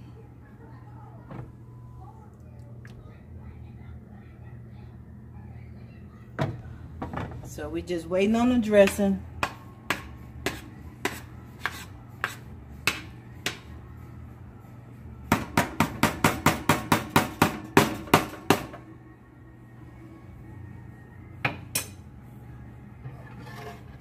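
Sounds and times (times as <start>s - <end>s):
steady low hum: 0.0s - 16.9s, 17.5s - 24.0s.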